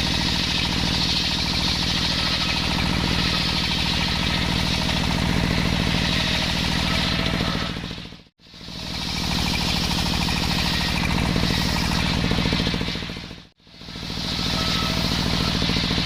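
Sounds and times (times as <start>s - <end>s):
circular saw machine engine running: 0.0s - 16.0s.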